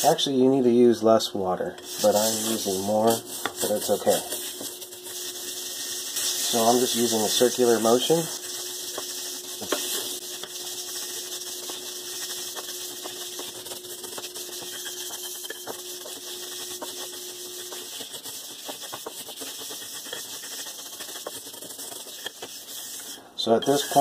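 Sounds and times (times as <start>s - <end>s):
brush scrubbing a metal pan: 1.8s - 24.0s.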